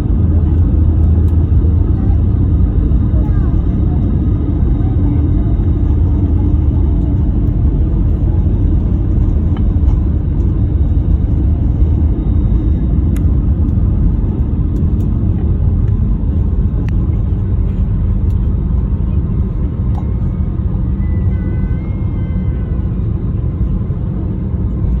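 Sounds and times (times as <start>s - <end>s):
airplane engines and wheels rumbling: 0.0s - 25.0s.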